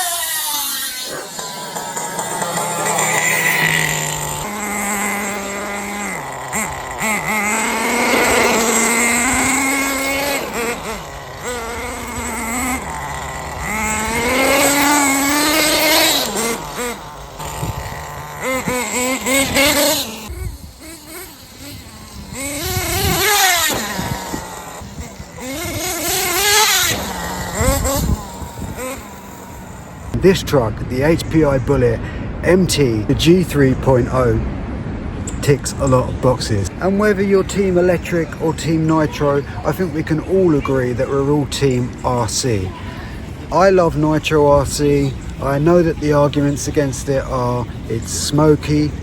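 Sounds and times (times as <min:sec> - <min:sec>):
nitro engine revving: 0:00.0 - 0:49.0.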